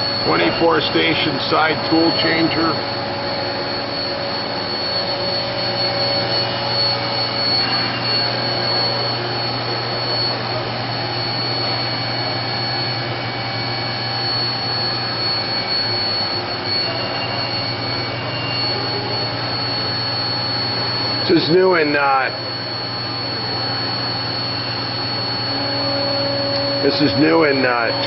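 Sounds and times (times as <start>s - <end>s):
machining center running: 0.0s - 28.0s.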